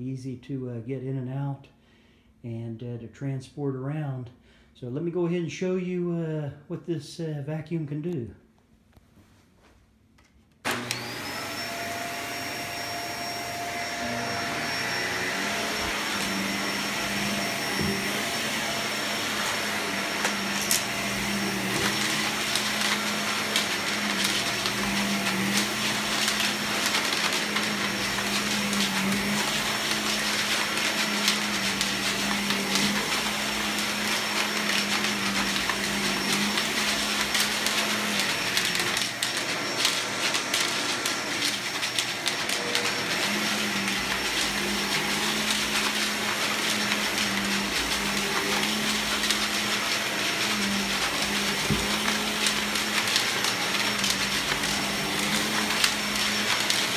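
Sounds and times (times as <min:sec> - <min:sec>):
vacuum cleaner motor whining: 0:10.6 - 0:56.9.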